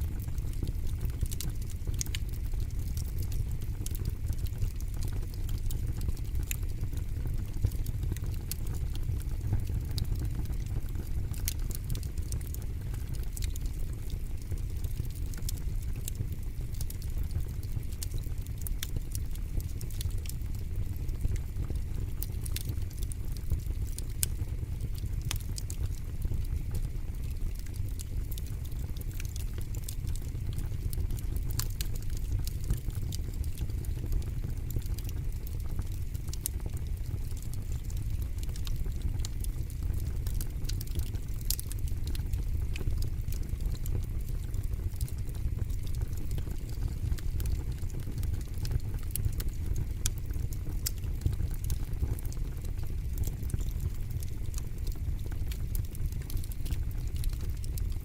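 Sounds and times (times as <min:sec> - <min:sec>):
fire crackling and popping: 0:00.0 - 0:58.0
low rumble of flame: 0:00.0 - 0:58.0.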